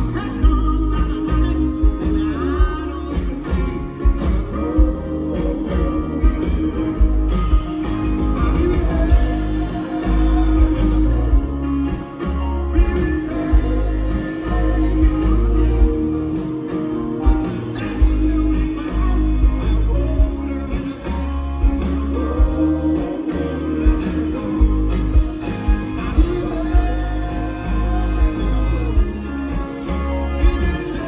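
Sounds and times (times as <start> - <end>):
live rock band playing: 0.0 - 31.0
male lead singer: 0.0 - 31.0.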